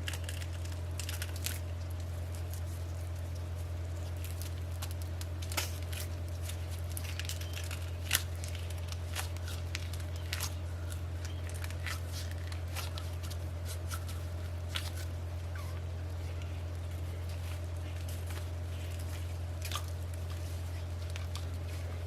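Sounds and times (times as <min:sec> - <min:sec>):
hands kneading sausage mixture: 0:00.0 - 0:22.0
steady low hum: 0:00.0 - 0:22.0.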